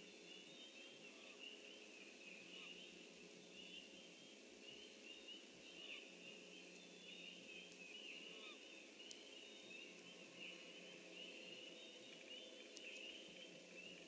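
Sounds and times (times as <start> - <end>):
distant songbirds chirping: 0.0 - 14.0
steady low hum: 0.0 - 14.0.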